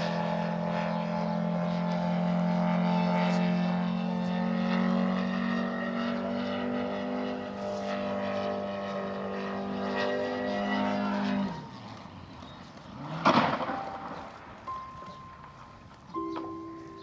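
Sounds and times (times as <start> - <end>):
model plane engine running: 0.0 - 17.0.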